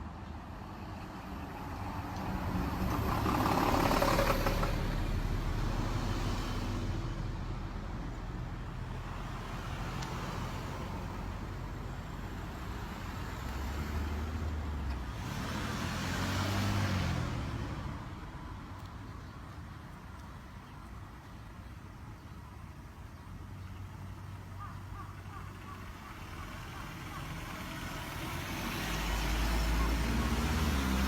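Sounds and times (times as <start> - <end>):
cars passing: 0.0 - 19.5, 23.8 - 31.0.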